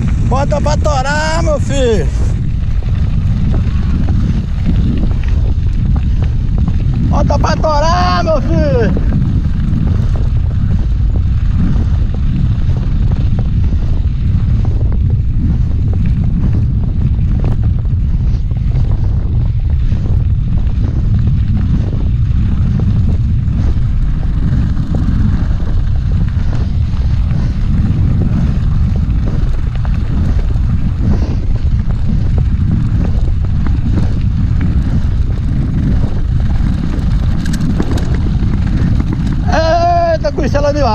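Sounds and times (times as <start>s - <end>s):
gravel clicks: 0.0s - 40.9s
tyres crunching on gravel: 0.0s - 40.9s
wind buffeting microphone: 0.0s - 40.9s.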